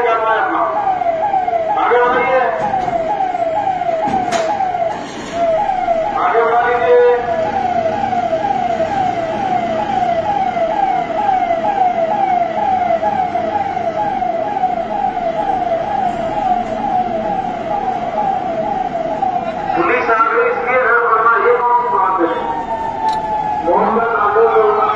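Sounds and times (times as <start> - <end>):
police siren: 0.0 - 24.9.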